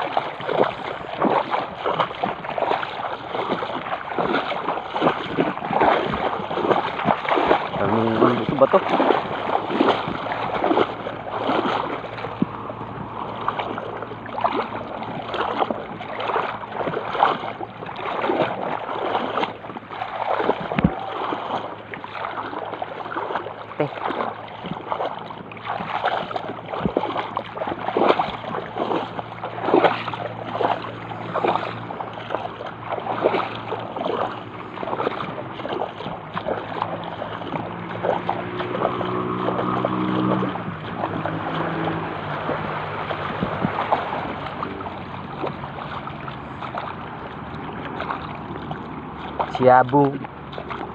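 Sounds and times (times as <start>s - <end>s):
water splashing against boat hull: 0.0s - 50.9s.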